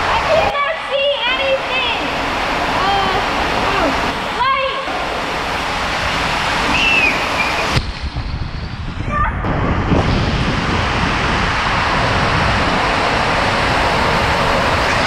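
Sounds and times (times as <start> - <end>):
water rushing and splashing: 0.0 - 15.0
wind buffeting microphone: 0.0 - 15.0.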